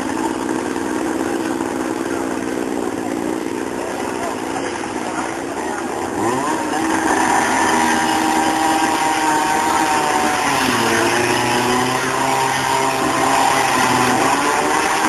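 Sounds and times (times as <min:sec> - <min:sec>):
small engine revving: 0:00.0 - 0:15.0.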